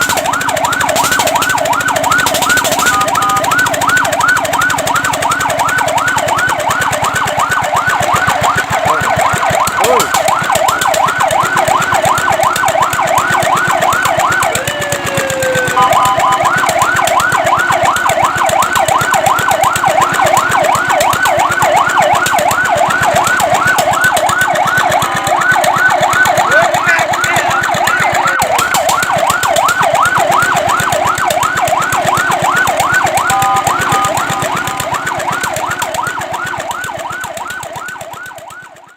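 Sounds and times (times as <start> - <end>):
fire truck siren yelping: 0.0 - 38.9.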